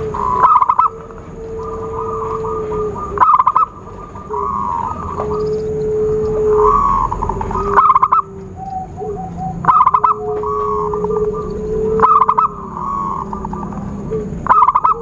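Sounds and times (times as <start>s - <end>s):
doves cooing: 0.0s - 15.0s
low steady coo: 0.0s - 15.0s.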